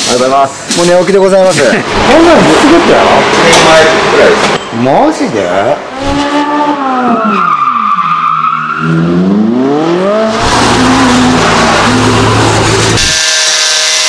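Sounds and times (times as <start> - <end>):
car engine revving: 1.7 - 4.6, 5.6 - 14.0.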